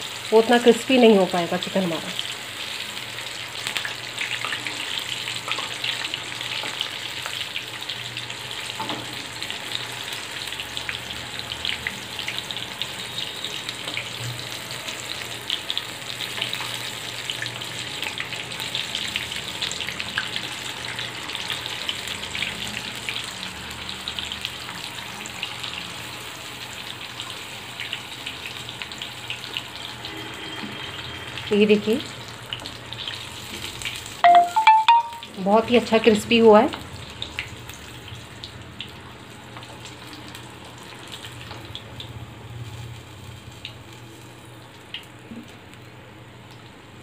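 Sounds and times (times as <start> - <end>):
chicken deep-frying in oil: 0.0 - 47.0.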